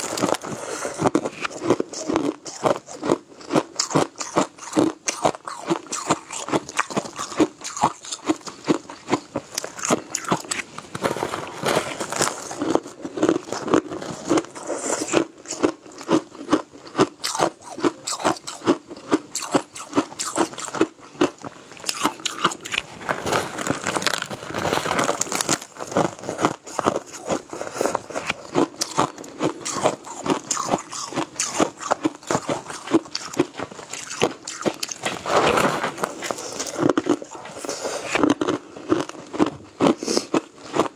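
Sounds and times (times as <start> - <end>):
chewing crushed ice: 0.0 - 40.9.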